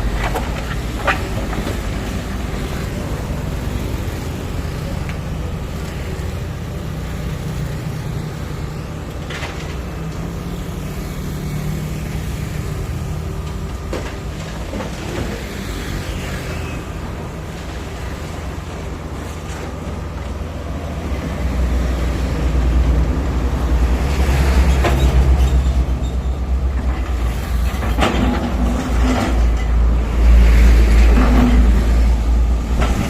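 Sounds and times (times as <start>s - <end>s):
diesel machinery rumbling: 0.0s - 33.0s.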